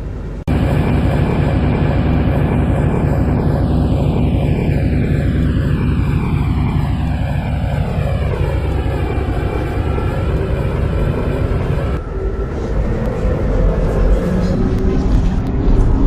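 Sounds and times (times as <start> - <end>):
electric train motor whine: 0.0 - 16.0
wheels rumbling on rails: 0.0 - 16.0.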